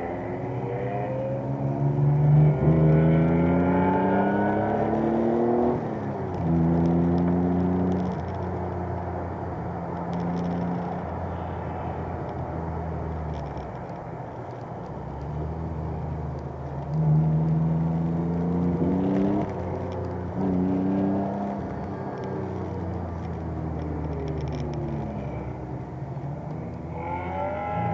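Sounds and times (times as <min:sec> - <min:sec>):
car engine running hard: 0:00.0 - 0:27.9.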